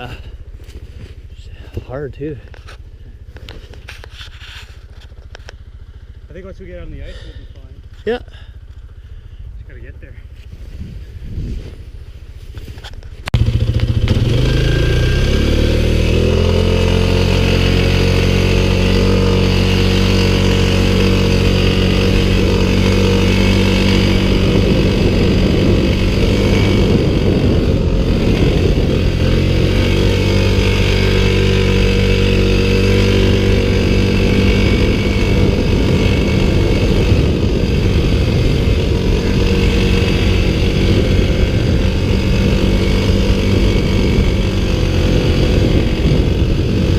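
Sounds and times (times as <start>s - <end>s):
vehicle engine under load: 0.0s - 46.9s.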